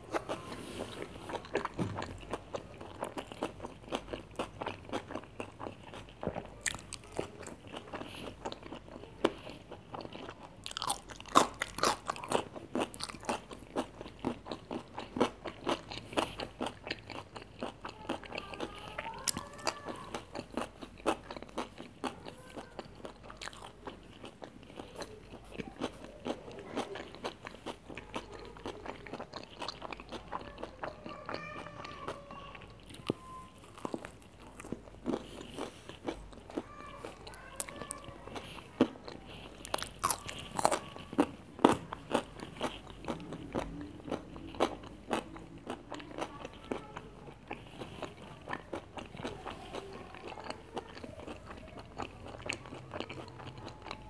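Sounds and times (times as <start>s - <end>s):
chewing crispy fried food: 0.0s - 54.0s.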